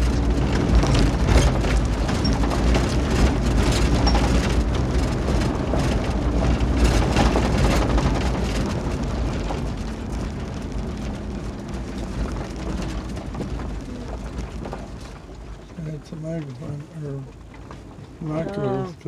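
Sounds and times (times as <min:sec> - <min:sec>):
tyres crackling on stones: 0:00.0 - 0:18.8
road and engine rumble: 0:00.0 - 0:19.0.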